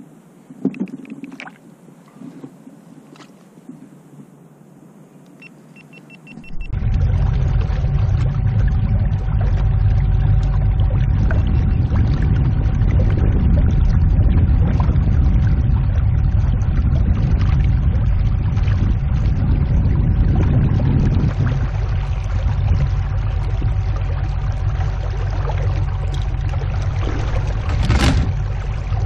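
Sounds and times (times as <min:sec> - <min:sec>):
boat engine rumble: 0:00.0 - 0:29.0
faint steady hum: 0:00.0 - 0:29.0
water noise: 0:00.0 - 0:29.0.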